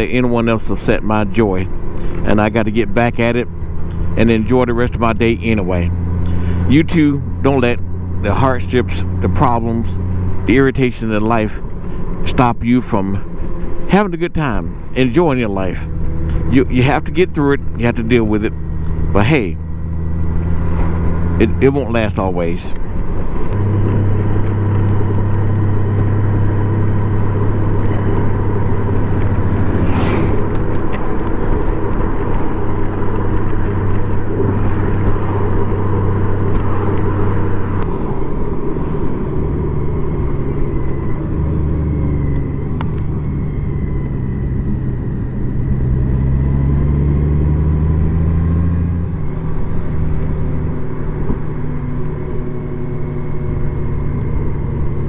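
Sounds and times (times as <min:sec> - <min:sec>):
motorcycle engine riding: 0:00.0 - 0:55.0
road noise: 0:00.0 - 0:55.0.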